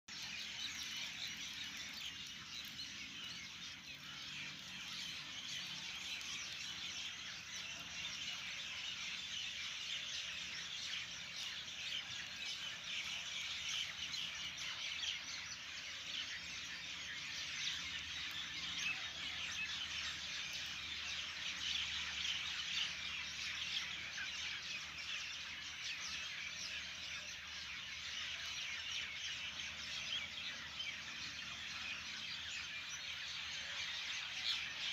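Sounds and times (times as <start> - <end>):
birds chirping and twittering: 0.1 - 34.9.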